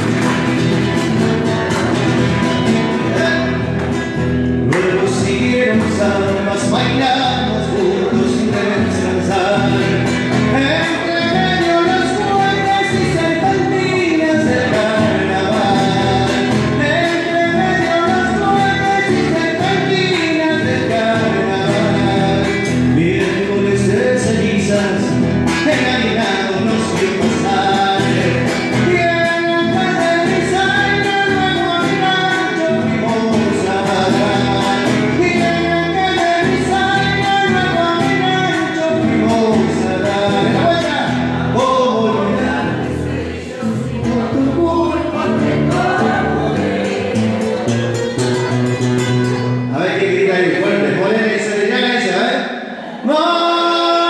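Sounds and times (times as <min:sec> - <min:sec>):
acoustic guitar: 0:00.0 - 0:54.0
man singing into microphone: 0:00.0 - 0:54.0.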